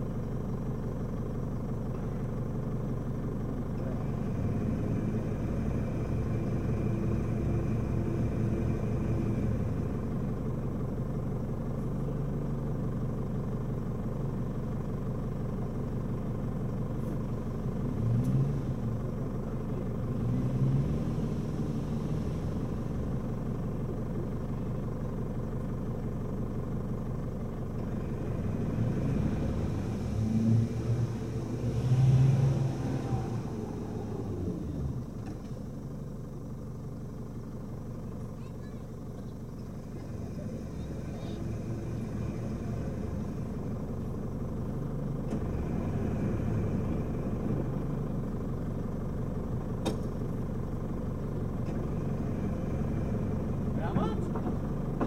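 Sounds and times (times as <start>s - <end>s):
vehicle engine running at low speed: 0.0s - 55.0s.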